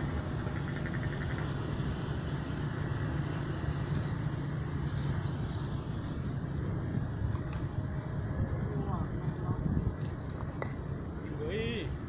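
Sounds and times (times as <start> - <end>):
distant engine droning: 0.0 - 12.0
outdoor background noise: 0.0 - 12.0.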